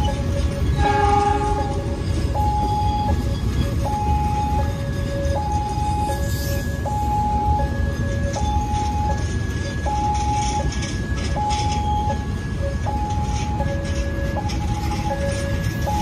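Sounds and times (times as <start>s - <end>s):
level crossing two-tone alarm: 0.0s - 16.0s
train coaches rumbling and rattling: 0.0s - 16.0s.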